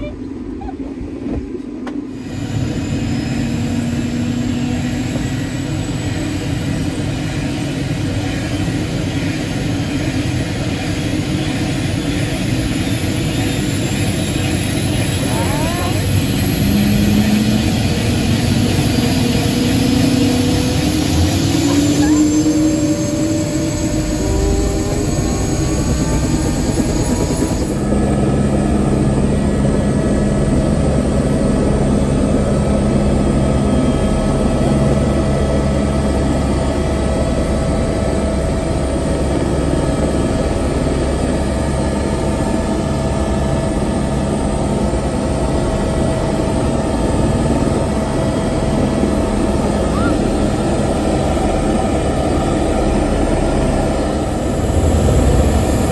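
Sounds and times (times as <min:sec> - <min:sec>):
helicopter turbine and rotor: 0:00.0 - 0:55.9.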